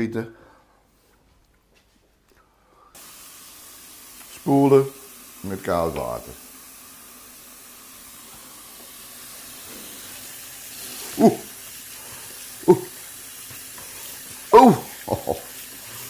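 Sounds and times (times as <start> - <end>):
tap water running onto noodles: 3.0 - 16.0.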